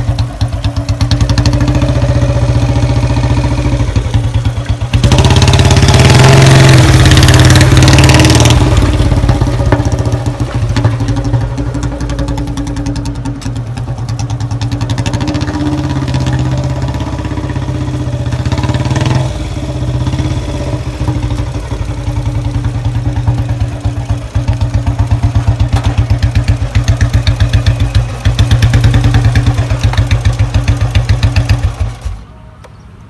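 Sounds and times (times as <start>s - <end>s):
motorcycle engine thumping: 0.0s - 32.2s.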